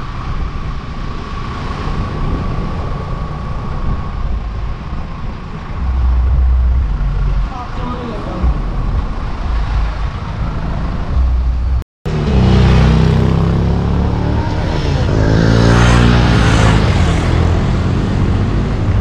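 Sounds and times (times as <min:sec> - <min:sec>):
road traffic engines: 0:00.0 - 0:19.0
vehicle passing by: 0:01.1 - 0:19.0.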